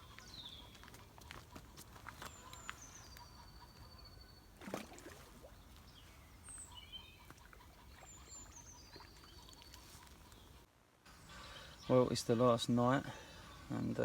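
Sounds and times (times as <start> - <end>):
small bird calling: 0.0 - 4.6, 5.4 - 12.5.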